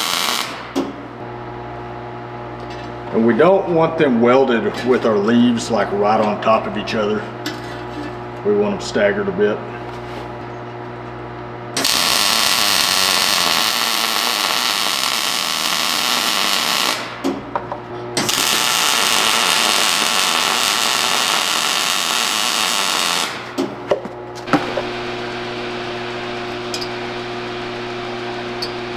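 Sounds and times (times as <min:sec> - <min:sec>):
arc welding crackling: 0:00.0 - 0:28.9.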